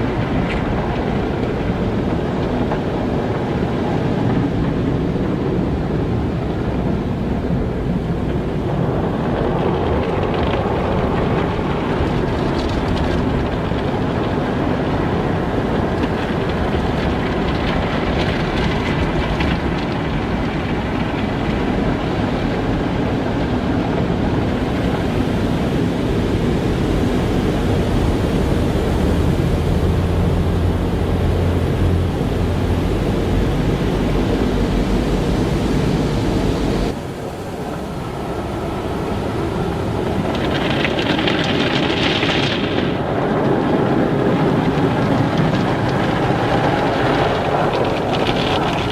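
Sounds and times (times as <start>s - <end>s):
car wash spraying water: 0.0s - 48.9s
deep machinery hum: 0.0s - 48.9s.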